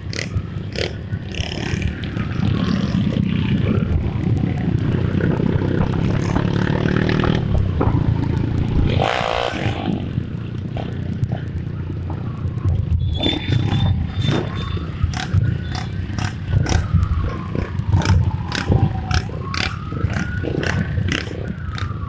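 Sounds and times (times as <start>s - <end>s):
motorcycle engines rumbling: 0.0s - 22.0s.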